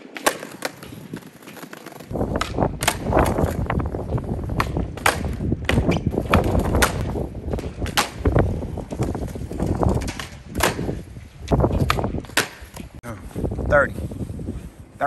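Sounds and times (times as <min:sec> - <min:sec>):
skateboard landing cracks: 0:00.0 - 0:03.8, 0:04.5 - 0:13.0
skateboard wheels rolling on concrete: 0:00.0 - 0:15.0.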